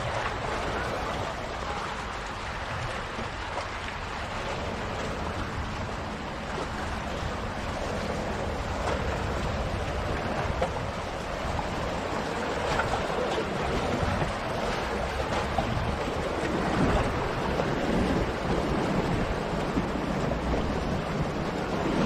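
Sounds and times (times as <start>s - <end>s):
sea waves splashing on rocks: 0.0s - 22.0s.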